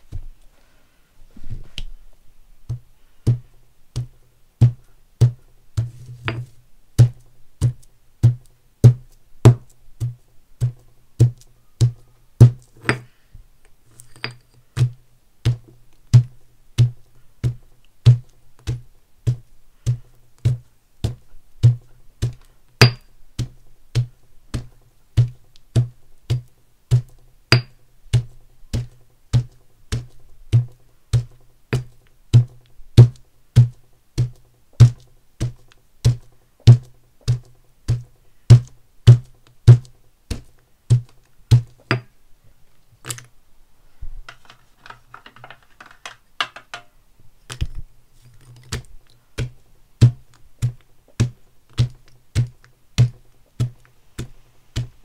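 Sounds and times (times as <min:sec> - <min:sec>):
stone pestle pounding in mortar: 0:02.7 - 0:13.1, 0:14.2 - 0:42.1, 0:48.7 - 0:55.0.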